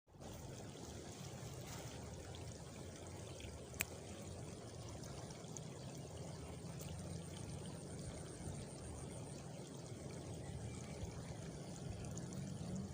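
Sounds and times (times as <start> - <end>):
running water: 0.1 - 12.9.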